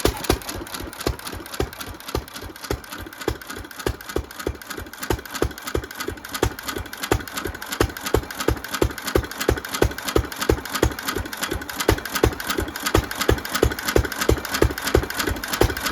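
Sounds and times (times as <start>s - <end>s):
stationary engine running steadily: 0.0s - 15.9s.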